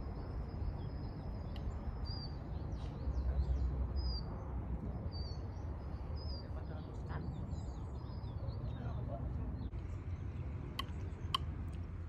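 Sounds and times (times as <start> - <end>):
small birds chirping: 0.0 - 12.0
wind rumble on microphone: 0.0 - 12.0.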